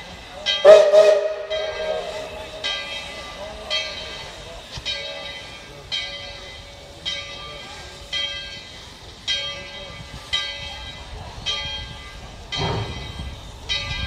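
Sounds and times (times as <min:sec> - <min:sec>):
locomotive bell ringing: 0:00.0 - 0:14.0.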